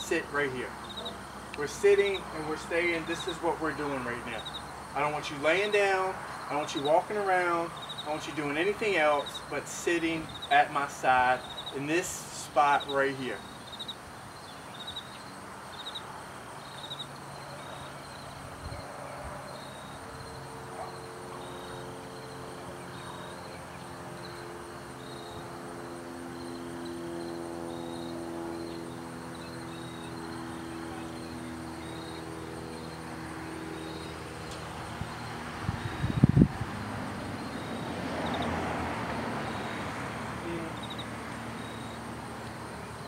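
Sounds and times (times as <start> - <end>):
insect chirping: 0.0 - 43.0.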